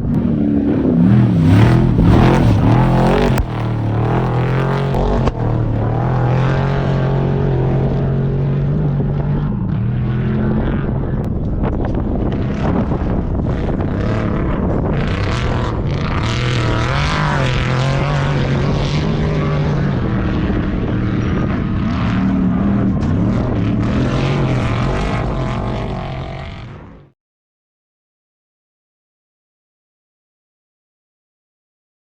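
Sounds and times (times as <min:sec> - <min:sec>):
race vehicle engine revving: 0:00.0 - 0:27.1.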